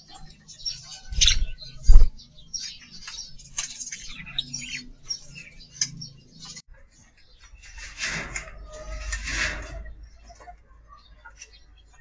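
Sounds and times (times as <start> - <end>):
small birds chirping and chattering: 0.0 - 12.0.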